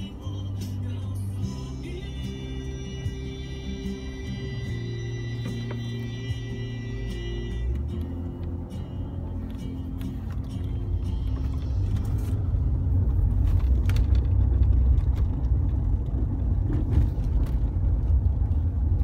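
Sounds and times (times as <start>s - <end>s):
car rumble from inside cabin: 0.0s - 19.0s.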